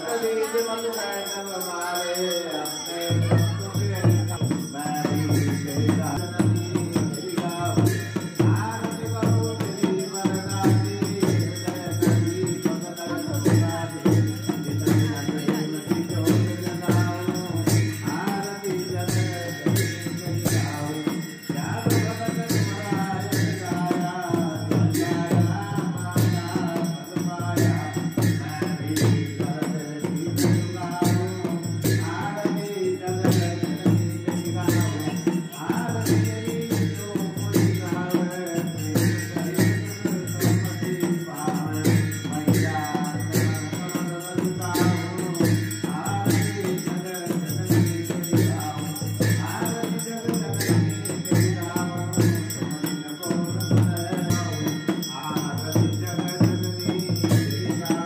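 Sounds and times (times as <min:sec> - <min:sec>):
devotional singing: 0:00.0 - 0:58.0
hand bell ringing: 0:00.0 - 0:58.0
steady drum beat: 0:02.6 - 0:58.0.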